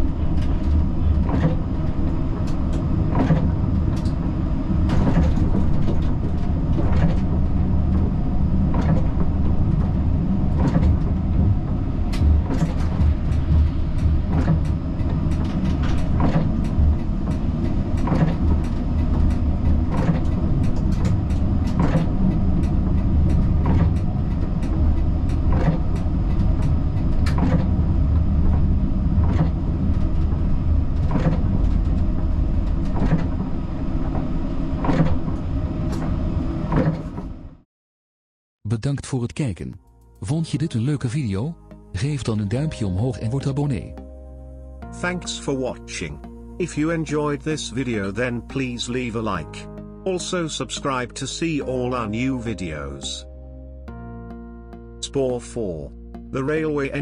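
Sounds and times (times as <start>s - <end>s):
tram drive and wheels rumbling: 0.0s - 37.6s, 40.0s - 53.3s, 54.8s - 57.0s.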